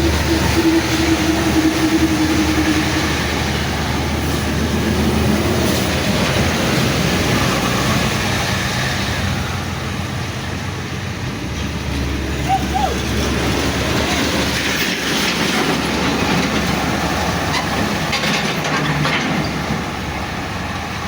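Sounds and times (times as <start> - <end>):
heavy vehicle engine running: 0.0 - 21.0
road and tyre noise: 0.0 - 21.0.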